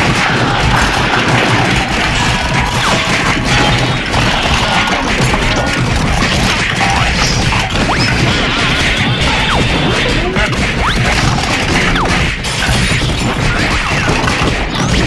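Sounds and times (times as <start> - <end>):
fight hits and smacks: 0.0 - 15.0
music: 0.0 - 15.0.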